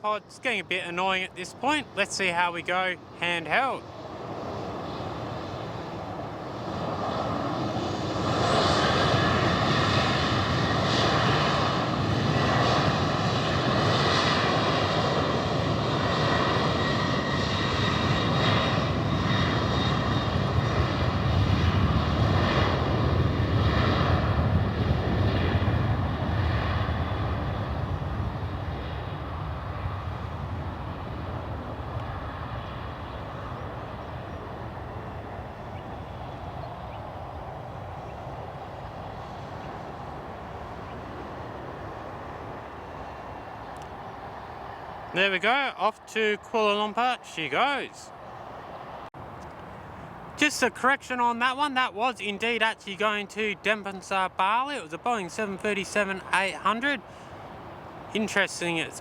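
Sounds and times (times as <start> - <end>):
jet engines at takeoff power: 0.0 - 59.0.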